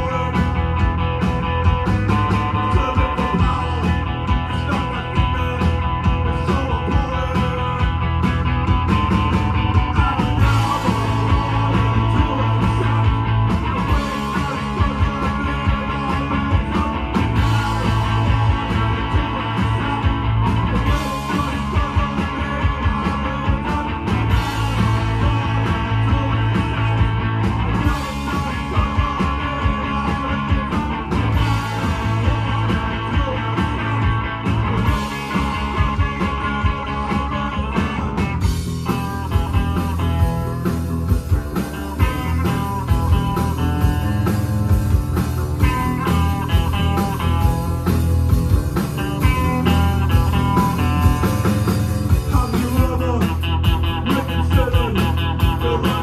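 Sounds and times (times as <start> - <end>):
man singing: 0.0 - 8.4, 9.2 - 40.8, 41.6 - 44.3, 48.8 - 56.0
live rock band playing: 0.0 - 56.0.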